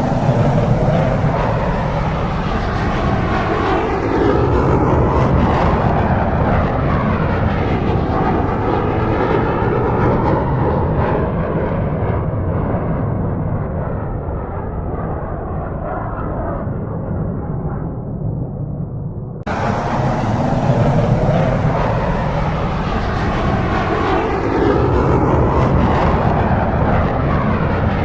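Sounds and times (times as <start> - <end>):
jet flyby: 0.0 - 28.0.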